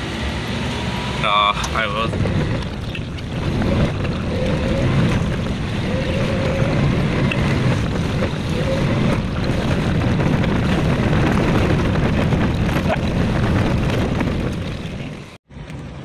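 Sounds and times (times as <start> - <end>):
car engine and tyre rumble: 0.0 - 16.0
wind on microphone: 2.0 - 15.4.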